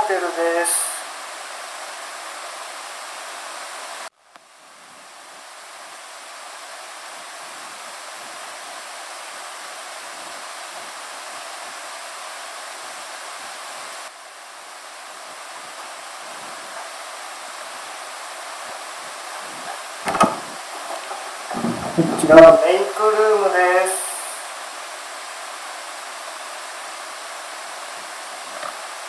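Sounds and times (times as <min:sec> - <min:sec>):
room tone hiss: 0:00.0 - 0:29.0.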